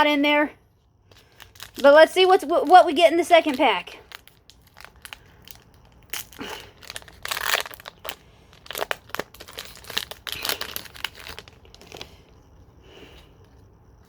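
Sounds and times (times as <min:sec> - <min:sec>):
foil wrapper crinkling: 0:01.1 - 0:12.4.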